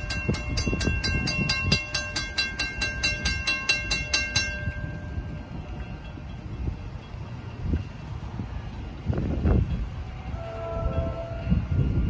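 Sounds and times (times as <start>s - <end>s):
crossing warning bell ringing: 0.0s - 12.0s.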